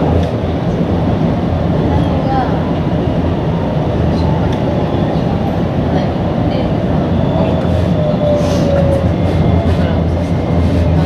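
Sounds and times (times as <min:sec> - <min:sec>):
commuter train rumble: 0:00.0 - 0:11.0.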